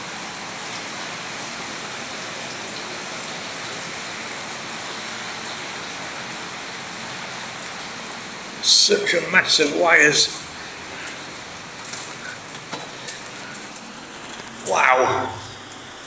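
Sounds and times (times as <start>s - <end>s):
water rushing in tunnel: 0.0s - 16.0s.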